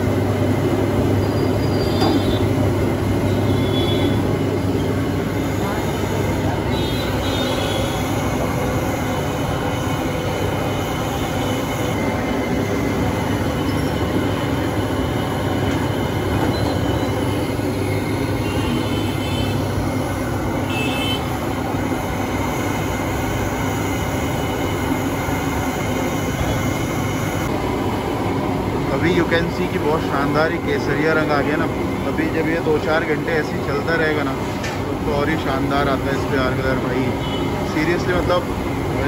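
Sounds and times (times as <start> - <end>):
gas burner roaring: 0.0 - 39.0.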